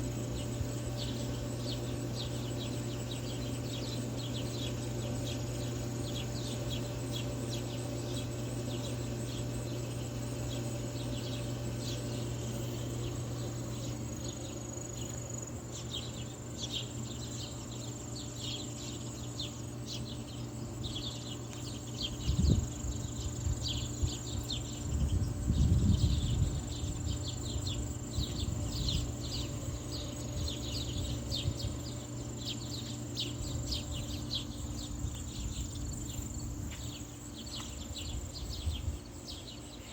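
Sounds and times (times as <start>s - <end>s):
birds chirping: 0.0s - 39.9s
high insect trill: 0.0s - 39.9s
low steady hum: 0.0s - 39.9s.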